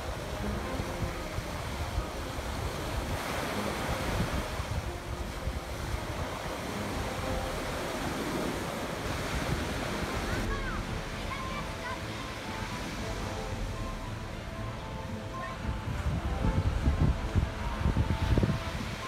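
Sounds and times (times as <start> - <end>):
small waves breaking on shore: 0.0 - 19.0
wind rumbling on microphone: 0.0 - 19.0.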